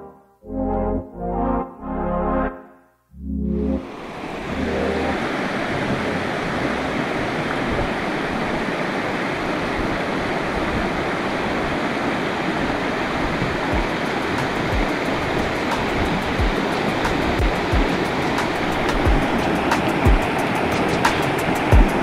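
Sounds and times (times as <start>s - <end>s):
river water rushing: 3.8s - 22.0s.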